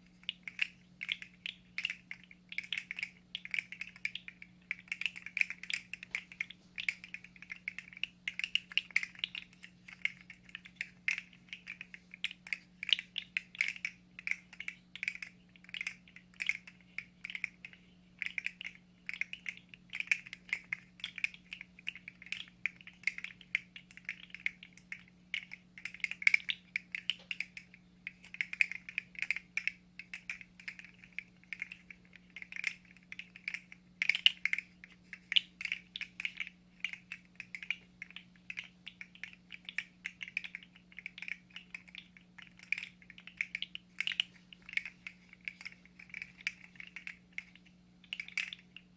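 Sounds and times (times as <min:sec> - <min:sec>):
faint low hum: 0:00.0 - 0:48.9.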